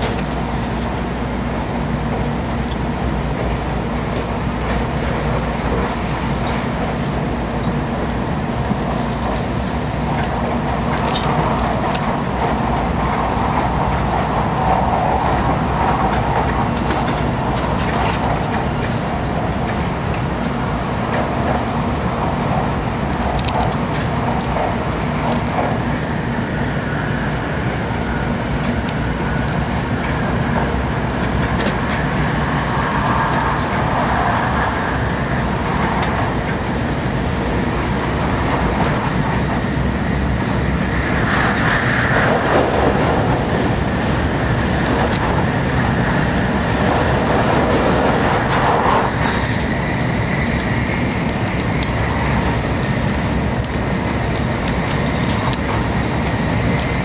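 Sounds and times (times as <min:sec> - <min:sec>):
train running noise from inside: 0:00.0 - 0:57.0.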